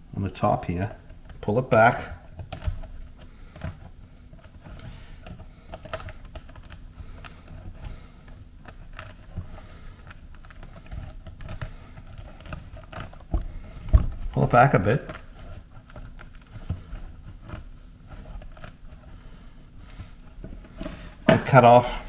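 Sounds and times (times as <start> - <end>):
mesh peeling clicks and crackles: 0.1 - 22.0.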